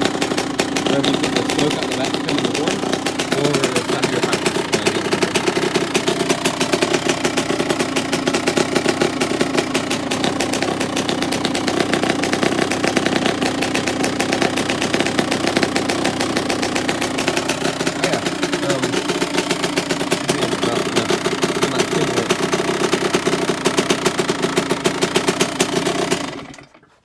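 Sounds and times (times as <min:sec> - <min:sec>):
dirt bike engine idling: 0:00.0 - 0:26.9.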